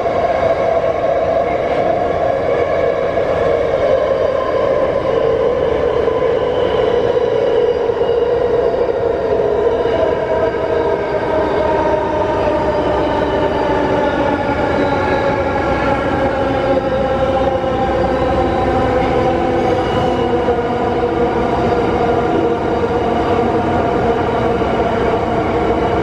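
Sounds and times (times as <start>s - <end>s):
subway car whining: 0.0s - 26.0s
subway wheels rumbling on rail: 0.0s - 26.0s.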